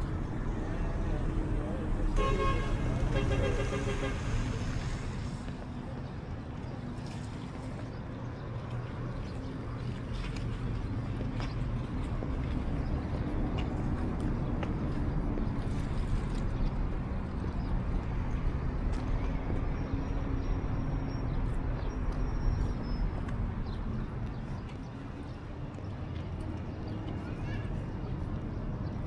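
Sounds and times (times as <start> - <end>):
vehicle engine rumble: 0.0 - 29.0.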